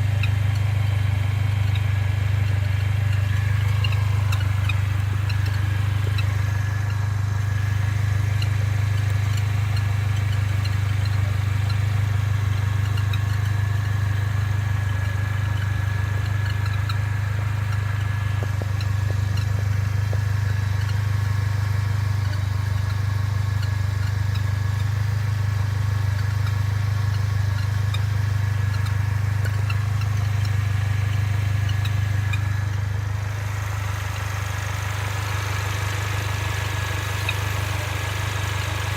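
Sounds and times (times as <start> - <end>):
car engine drone while driving: 0.0 - 38.9.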